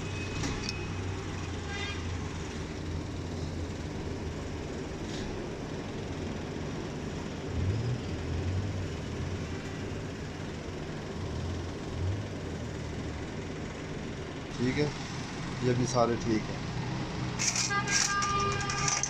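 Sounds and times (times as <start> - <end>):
low mechanical rumble: 0.0 - 19.0.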